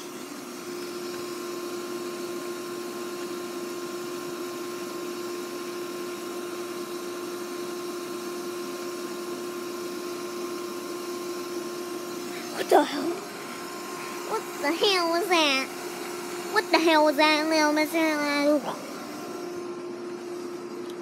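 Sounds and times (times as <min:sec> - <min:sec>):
motor humming with steady whine: 0:00.0 - 0:21.0.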